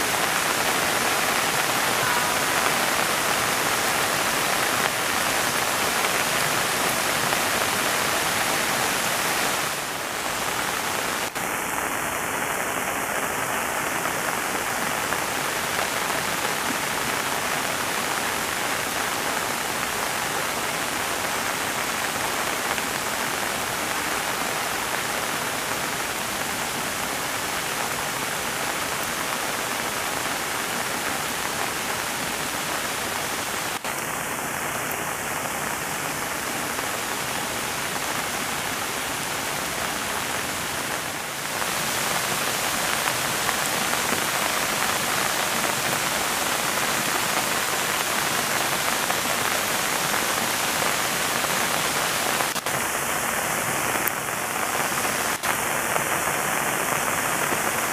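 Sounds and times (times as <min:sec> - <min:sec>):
rain falling on pond water: 0:00.0 - 0:57.9.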